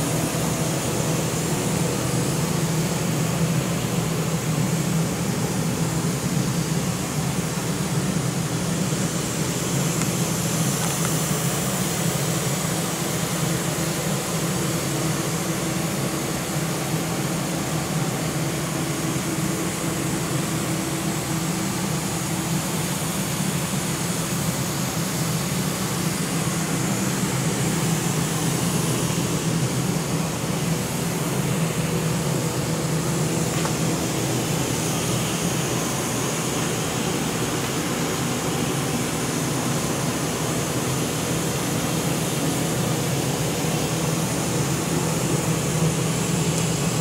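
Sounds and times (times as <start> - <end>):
steady mechanical drone: 0.0 - 47.0.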